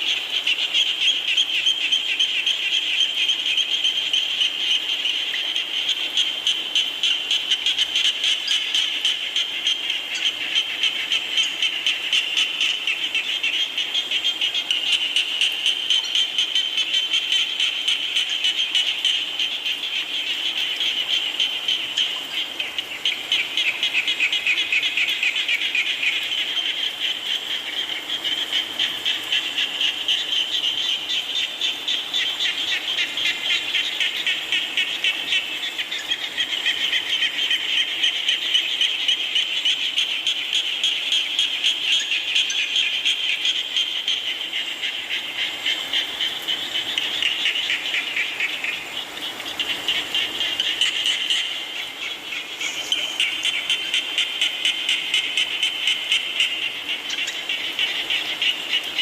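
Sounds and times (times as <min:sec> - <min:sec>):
frogs calling in chorus: 0:00.0 - 0:59.0.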